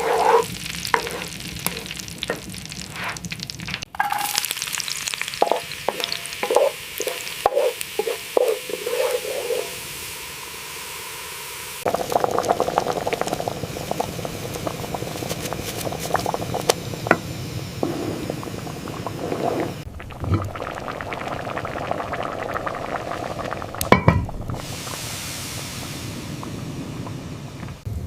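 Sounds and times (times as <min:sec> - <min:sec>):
liquid bubbling and crackling: 0:00.0 - 0:07.1, 0:11.8 - 0:27.9.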